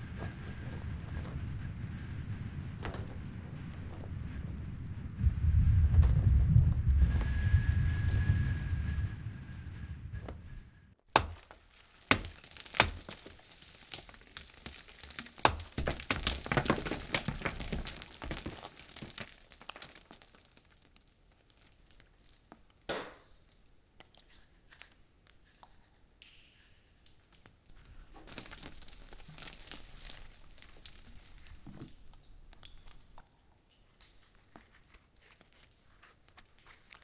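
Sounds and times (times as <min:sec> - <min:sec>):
dense crackling and crumbling: 0:00.0 - 0:10.4, 0:11.0 - 0:23.8, 0:27.2 - 0:37.0.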